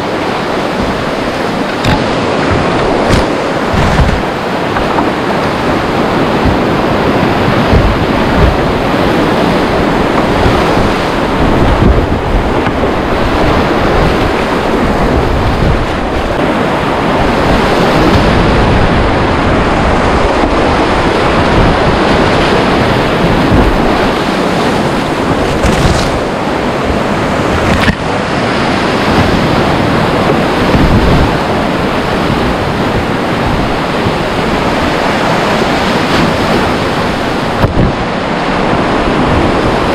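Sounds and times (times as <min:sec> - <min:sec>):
whitewater rapids rushing: 0:00.0 - 0:39.9
wind buffeting microphone: 0:00.0 - 0:39.9.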